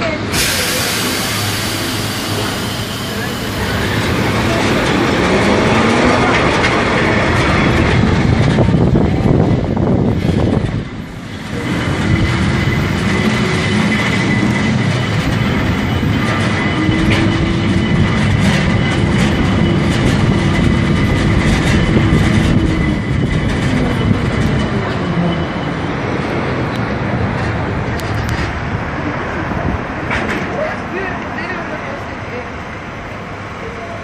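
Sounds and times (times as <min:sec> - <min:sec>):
tram rumbling and rattling: 0:00.0 - 0:34.0.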